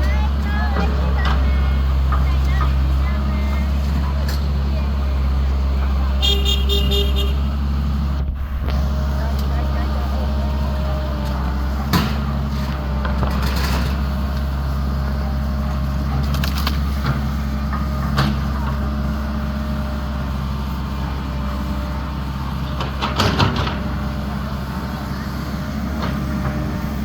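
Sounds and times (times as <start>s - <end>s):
excavator engine droning: 0.0s - 27.0s.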